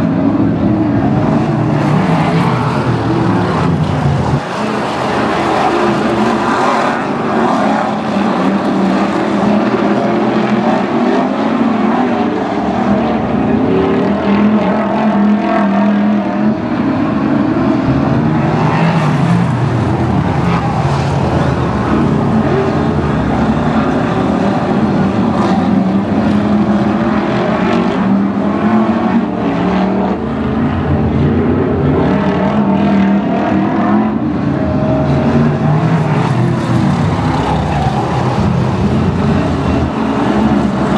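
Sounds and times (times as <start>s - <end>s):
race car engines running hard: 0.0s - 40.9s.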